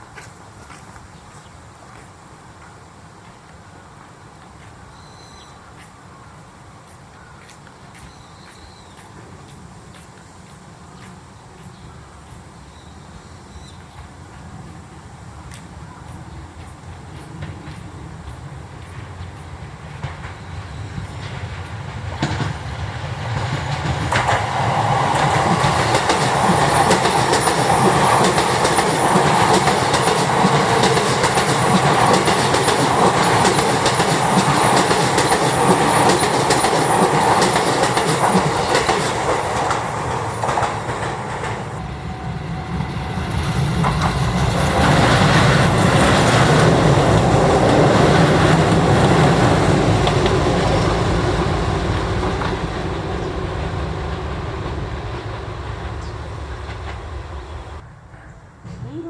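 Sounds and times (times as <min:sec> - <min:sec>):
train wheels clattering over rails: 0:07.4 - 0:57.8.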